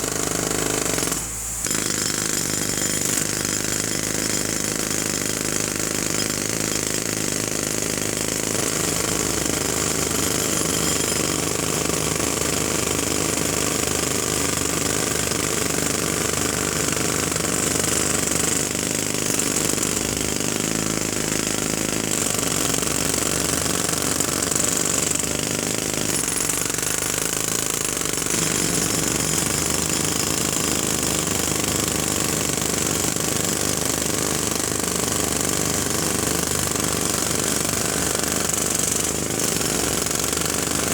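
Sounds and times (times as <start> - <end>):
pneumatic jackhammer hammering: 0.0 - 40.9.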